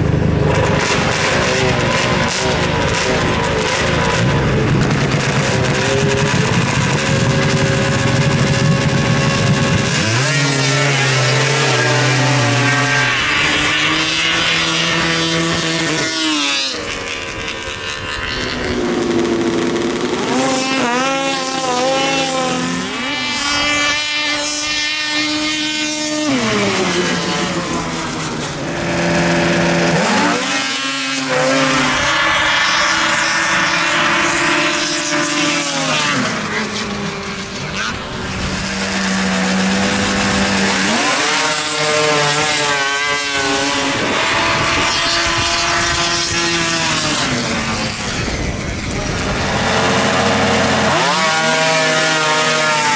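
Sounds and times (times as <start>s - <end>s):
snowmobile engines whining: 0.0s - 52.9s.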